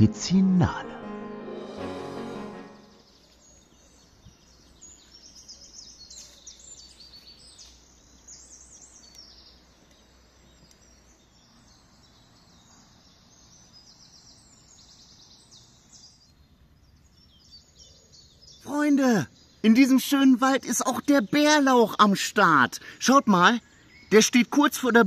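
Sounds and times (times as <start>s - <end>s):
songbirds trilling: 2.4s - 25.0s.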